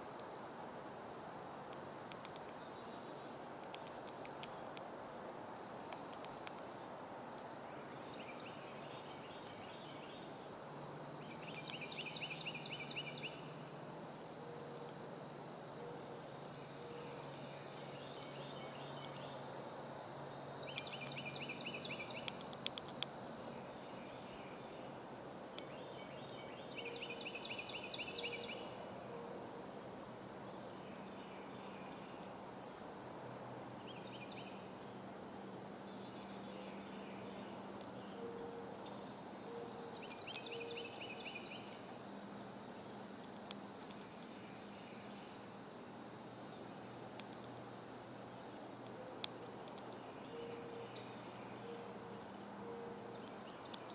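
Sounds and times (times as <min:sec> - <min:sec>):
insect shrill drone: 0:07.7 - 0:19.6, 0:20.5 - 0:25.0, 0:25.6 - 0:30.2, 0:30.8 - 0:53.9.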